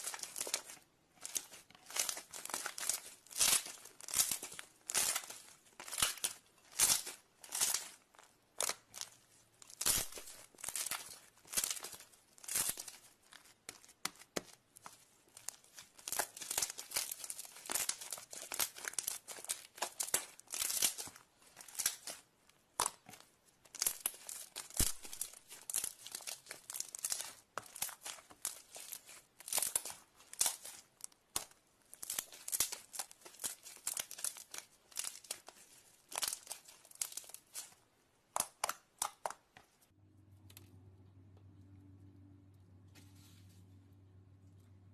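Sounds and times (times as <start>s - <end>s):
slime crackling: 0.0s - 39.7s.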